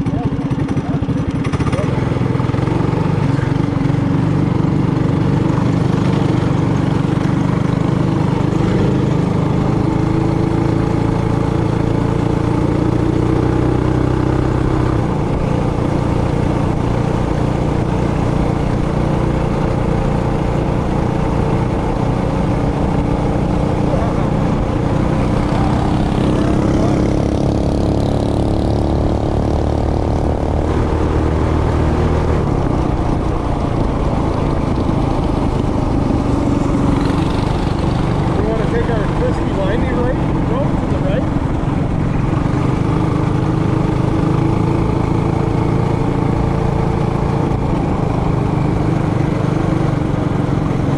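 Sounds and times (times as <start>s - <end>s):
mini bike engine revving: 0.0s - 50.9s.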